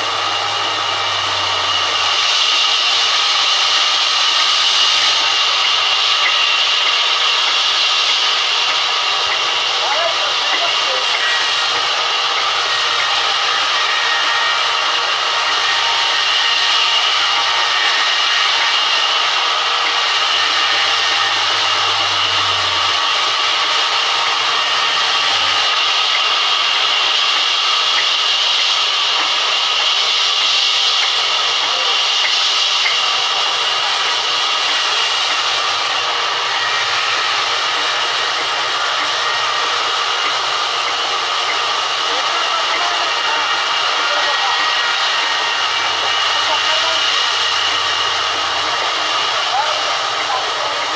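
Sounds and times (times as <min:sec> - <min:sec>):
band saw cutting wood: 0:00.0 - 0:50.9.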